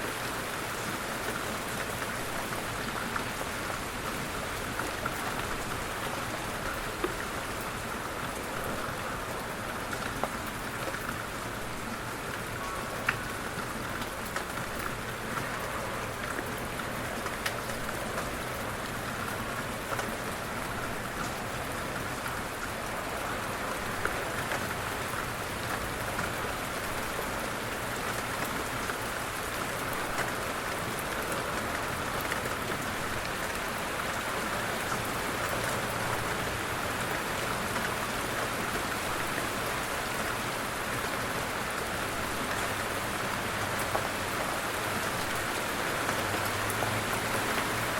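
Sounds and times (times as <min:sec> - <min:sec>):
light rain falling: 0:00.0 - 0:47.9
raindrops ticking: 0:01.2 - 0:47.9.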